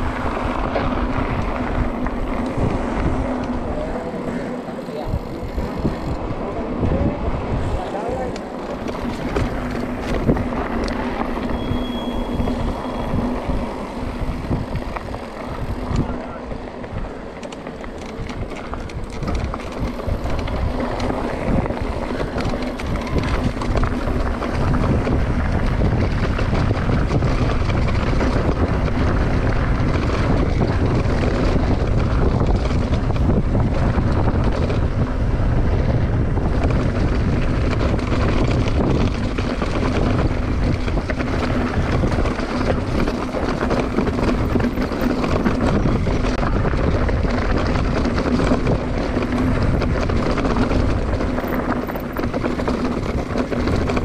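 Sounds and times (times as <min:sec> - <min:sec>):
bike tyres on gravel: 0:00.0 - 0:54.0
wind on microphone: 0:00.0 - 0:54.0.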